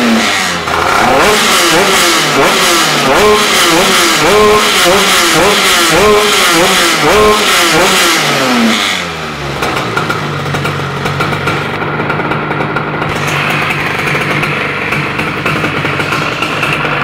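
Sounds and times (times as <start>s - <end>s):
moped engine idling: 0.0s - 17.0s.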